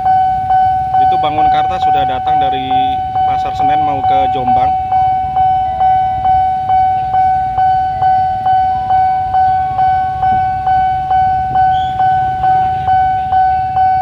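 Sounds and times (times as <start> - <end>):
level-crossing alarm bell: 0.0 - 14.0
steady alarm tone: 0.0 - 14.0.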